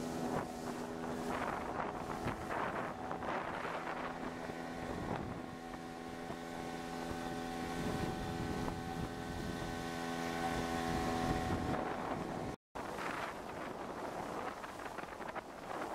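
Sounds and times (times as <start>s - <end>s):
outboard motor running: 0.0s - 15.9s
wind buffeting microphone: 0.0s - 15.9s.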